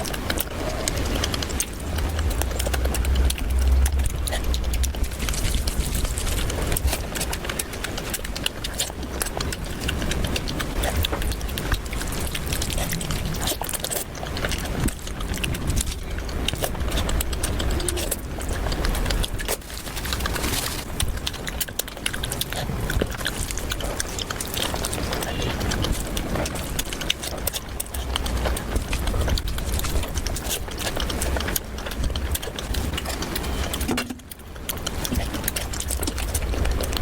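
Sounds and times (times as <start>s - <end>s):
crunching and chewing: 0.0s - 37.0s.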